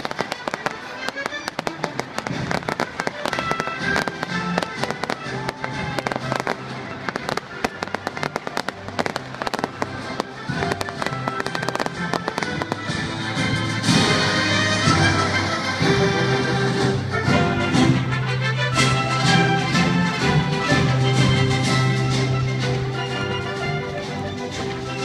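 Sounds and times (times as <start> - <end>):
fireworks cracking and popping: 0.0 - 23.3
music playing: 0.0 - 25.0.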